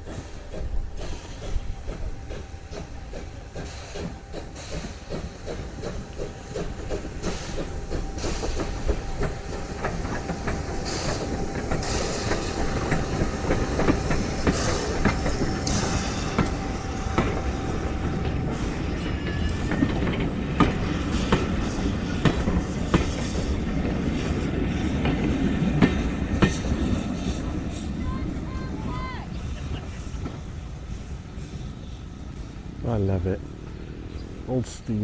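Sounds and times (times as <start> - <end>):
train wheels clattering: 0.0 - 32.6
steam hissing: 0.0 - 35.0
steam locomotive chuffing: 0.0 - 35.0.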